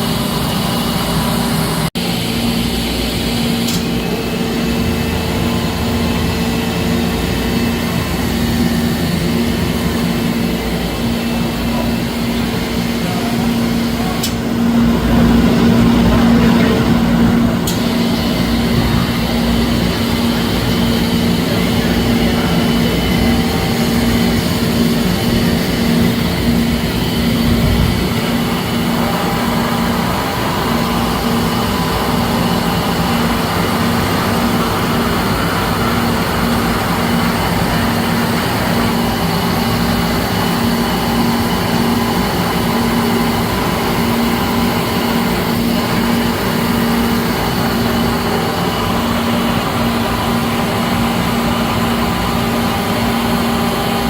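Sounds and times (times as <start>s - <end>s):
lathe mechanical hum: 0.0s - 54.0s.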